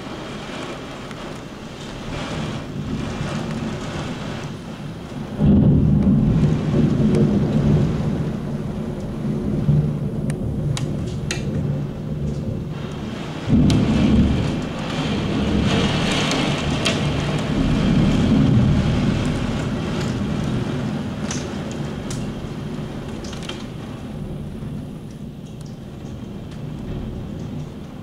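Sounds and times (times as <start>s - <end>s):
heavy rain hiss: 0.0s - 28.0s
rolling thunder: 0.0s - 28.0s.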